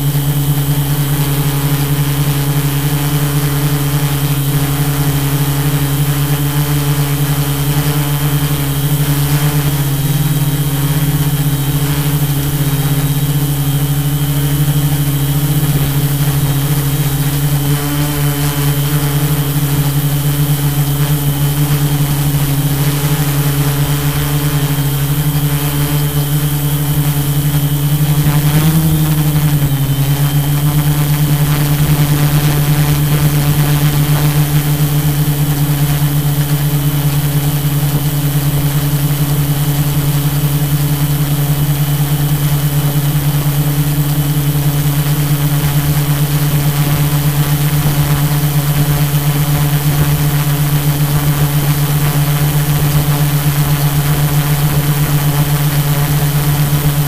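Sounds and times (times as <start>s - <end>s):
drone propellers humming: 0.0s - 57.0s
thin high whine: 0.0s - 57.0s.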